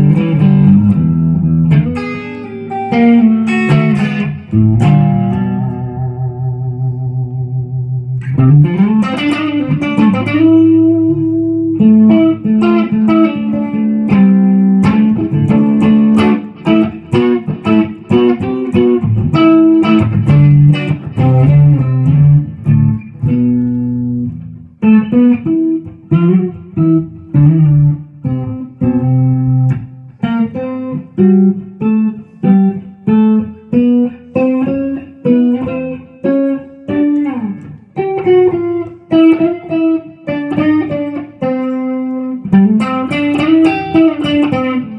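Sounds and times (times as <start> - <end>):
electric guitar playing: 0.0 - 44.9.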